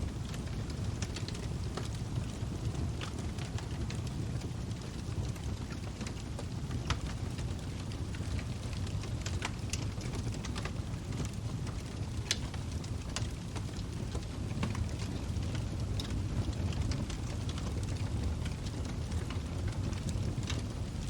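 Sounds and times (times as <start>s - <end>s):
burning wood crackling and popping: 0.0s - 21.0s
fire flames rumbling: 0.0s - 21.0s.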